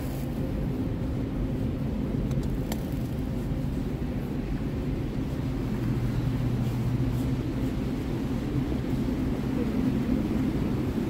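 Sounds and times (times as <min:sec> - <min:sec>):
supermarket background hum: 0:00.0 - 0:11.0.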